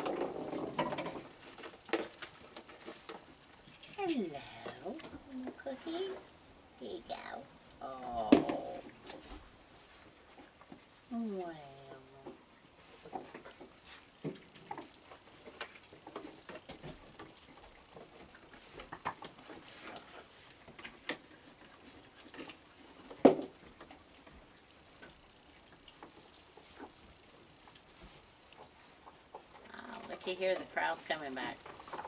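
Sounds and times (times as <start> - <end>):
raccoons chewing kibble: 0.0 - 32.0.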